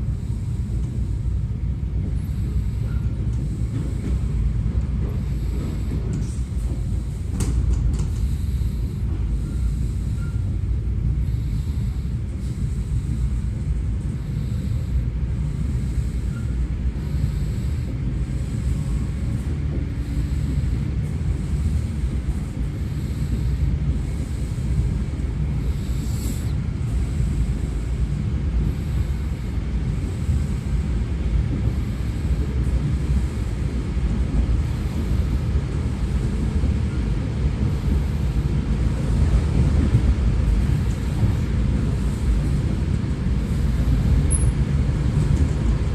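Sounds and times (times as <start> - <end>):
train wheels on rails: 0.0 - 45.9.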